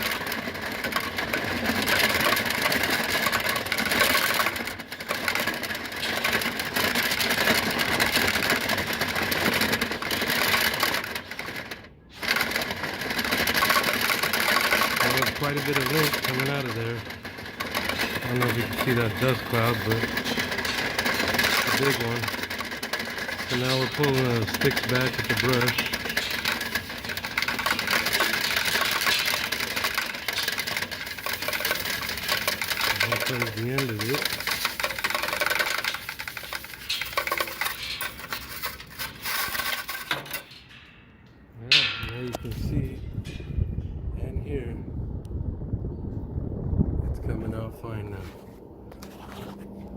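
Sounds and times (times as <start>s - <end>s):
power drill spinning brush rattle: 0.0s - 40.8s.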